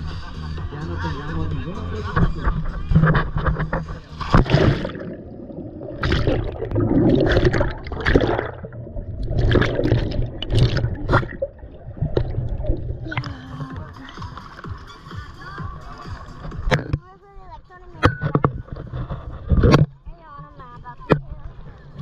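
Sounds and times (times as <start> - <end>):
muffled underwater sloshing and bubbling: 2.1 - 22.0.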